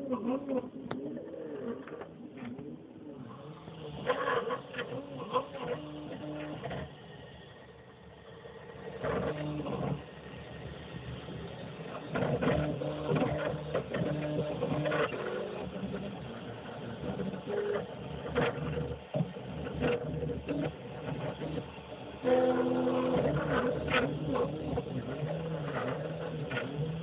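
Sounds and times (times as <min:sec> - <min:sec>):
stepper motors whirring: 0:00.1 - 0:27.0.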